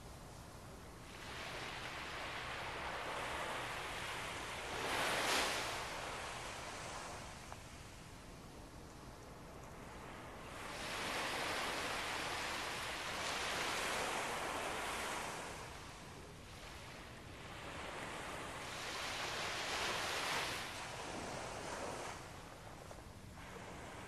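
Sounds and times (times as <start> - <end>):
small ocean waves breaking: 0.9 - 24.0.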